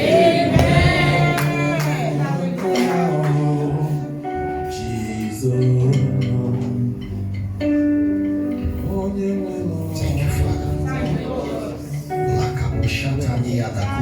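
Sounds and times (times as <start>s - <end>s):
voices singing: 0.0s - 7.5s, 8.8s - 12.8s
church instruments playing: 0.0s - 13.2s.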